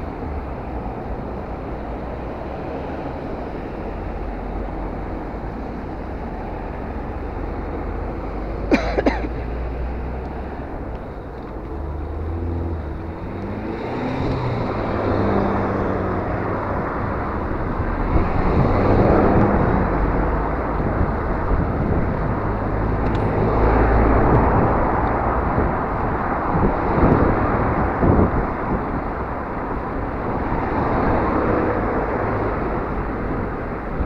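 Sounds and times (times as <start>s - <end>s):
passing traffic engines: 0.0s - 34.0s
wind and road noise: 0.0s - 34.0s.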